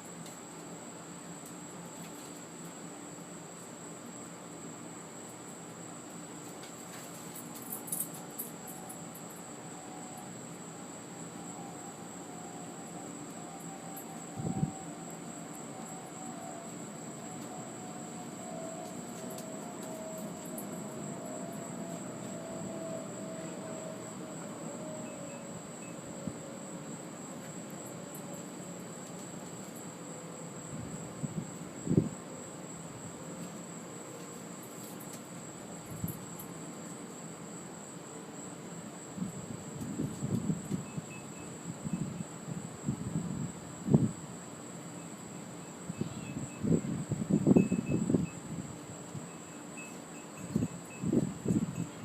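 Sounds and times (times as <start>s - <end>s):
faint wavering hum: 0.0s - 44.1s
crickets trilling: 0.0s - 52.0s
faint high steady whine: 0.0s - 52.0s.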